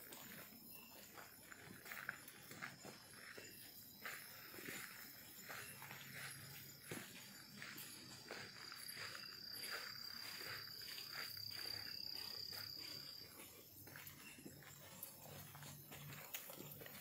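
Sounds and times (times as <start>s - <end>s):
footsteps on dirt trail: 0.0s - 17.0s
high-pitched insect trill: 0.0s - 17.0s.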